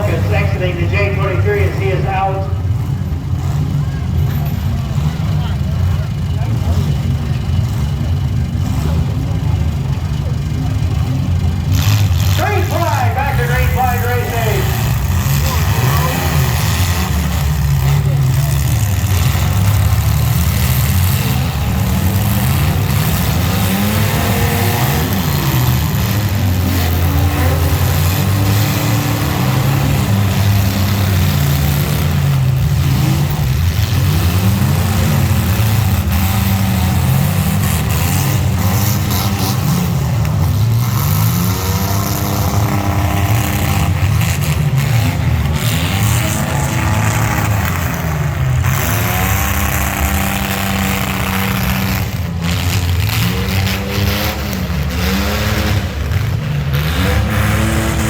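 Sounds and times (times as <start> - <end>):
racing engines revving: 0.0 - 58.0.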